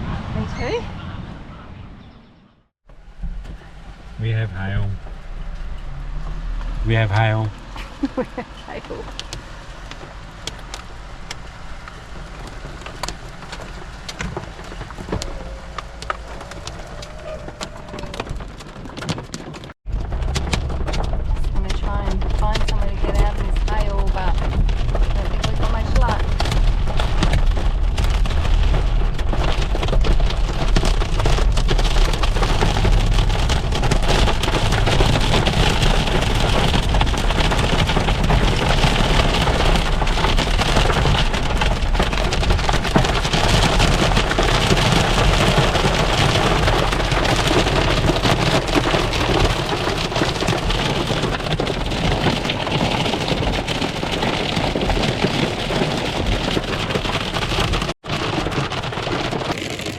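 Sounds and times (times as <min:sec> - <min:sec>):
low rumble: 0:00.0 - 0:57.9
hailstones pelting a car: 0:06.6 - 0:59.9.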